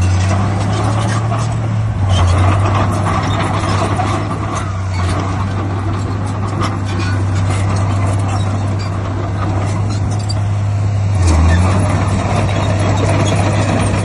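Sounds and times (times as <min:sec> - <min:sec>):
heavy diesel engine droning: 0:00.0 - 0:14.0.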